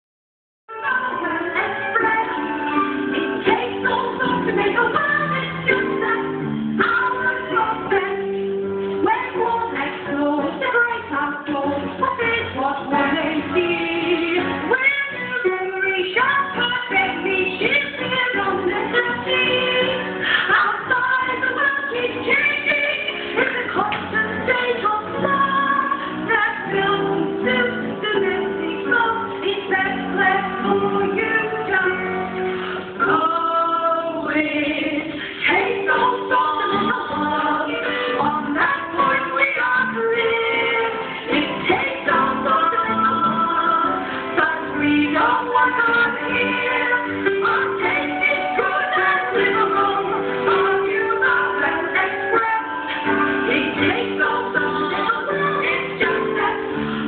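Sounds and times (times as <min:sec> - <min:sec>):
accompanying music: 0:00.7 - 0:57.0
young female voices singing: 0:09.0 - 0:57.0.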